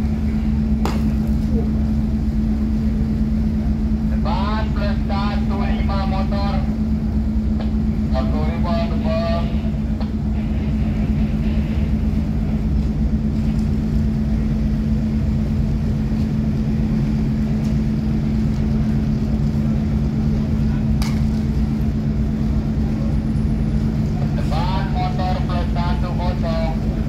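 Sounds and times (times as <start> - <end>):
ship diesel engines droning: 0.0 - 27.0.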